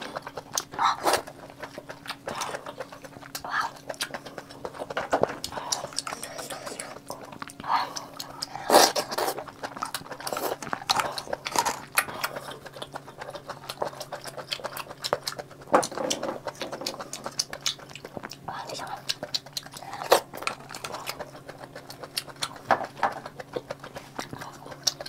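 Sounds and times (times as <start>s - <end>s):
wet chewing and slurping: 0.0s - 25.0s.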